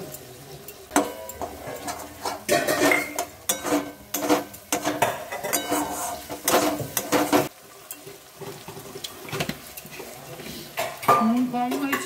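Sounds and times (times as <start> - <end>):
metal utensil scraping a pan: 0.6 - 12.0.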